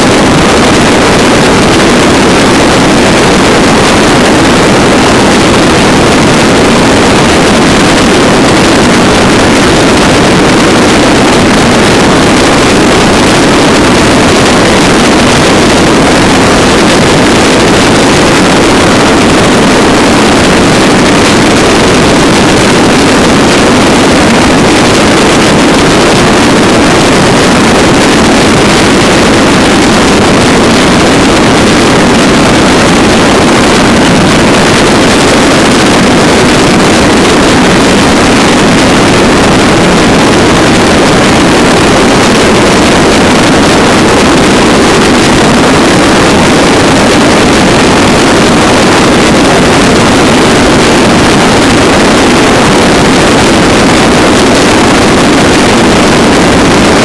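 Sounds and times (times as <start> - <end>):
motorcycle engine drone: 0.0 - 57.0
wind roar on microphone: 0.0 - 57.0.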